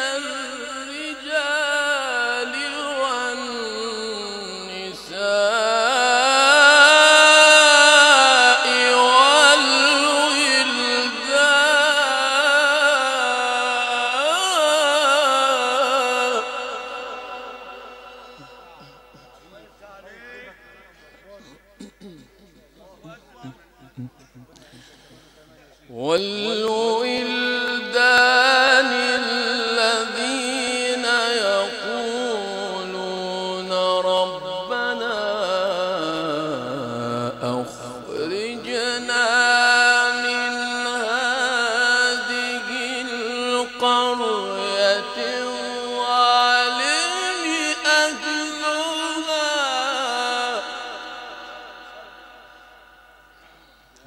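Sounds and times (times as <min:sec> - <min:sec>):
person reciting melodically: 0:00.0 - 0:52.8.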